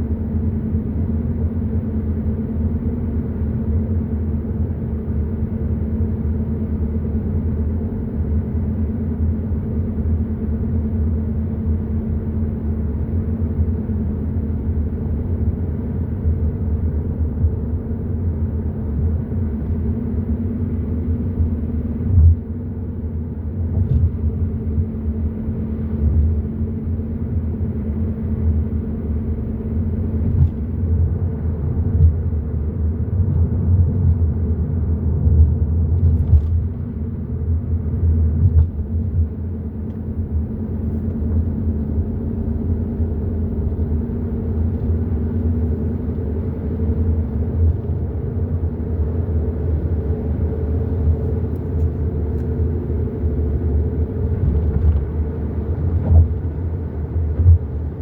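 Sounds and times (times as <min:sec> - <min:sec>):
car road rumble: 0:00.0 - 0:58.0
engine drone: 0:00.0 - 0:58.0.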